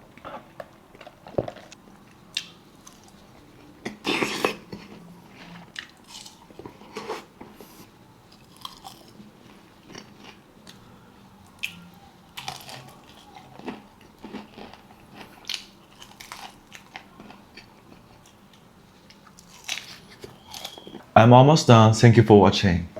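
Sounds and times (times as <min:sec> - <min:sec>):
person chewing food: 0:00.1 - 0:21.1.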